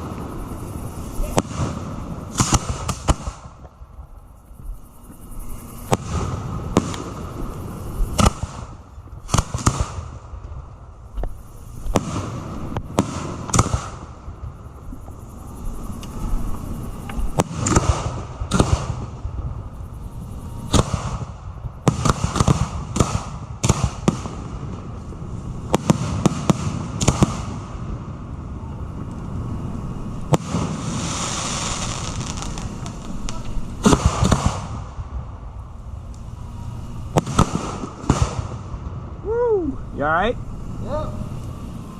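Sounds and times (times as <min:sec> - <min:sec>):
firework bangs: 0:00.0 - 0:04.0, 0:05.5 - 0:41.9
firework hissing: 0:00.0 - 0:41.9.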